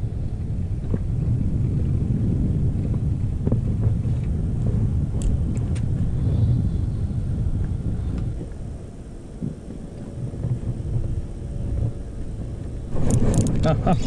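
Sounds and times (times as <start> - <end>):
outboard motor rumbling: 0.0 - 14.0
wind on microphone: 0.0 - 14.0.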